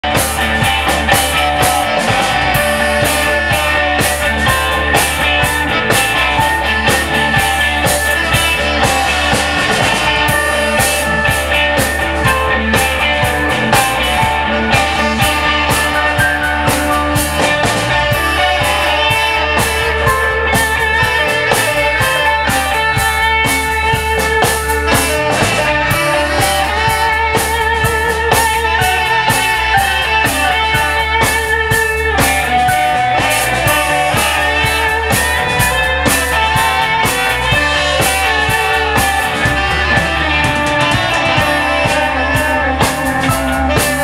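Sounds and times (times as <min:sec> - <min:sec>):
rock band playing: 0:00.0 - 0:44.0.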